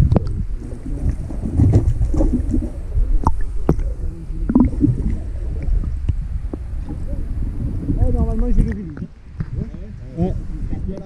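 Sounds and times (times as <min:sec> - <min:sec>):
low rumble: 0:00.0 - 0:10.8
water gurgling: 0:00.0 - 0:11.0.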